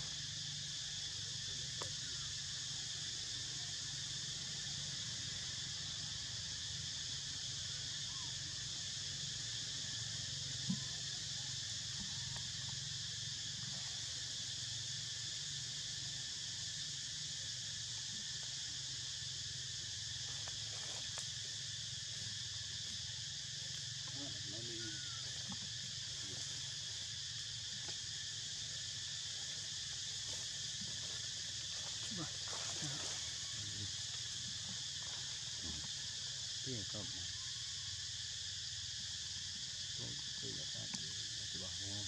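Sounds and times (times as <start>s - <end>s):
insects shrilling: 0.0s - 42.0s.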